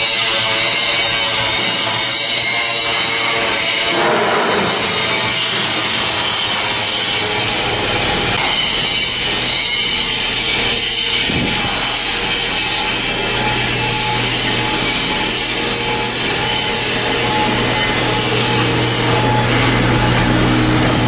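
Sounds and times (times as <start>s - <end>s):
power tool rasping on steel: 0.0s - 21.0s.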